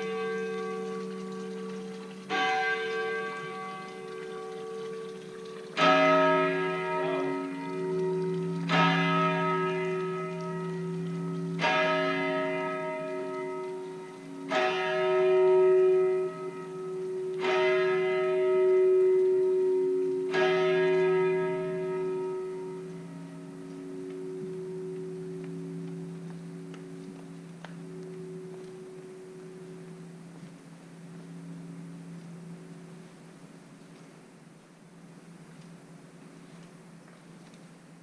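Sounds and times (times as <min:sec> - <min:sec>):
steady lower ringing tones: 0:00.0 - 0:38.0.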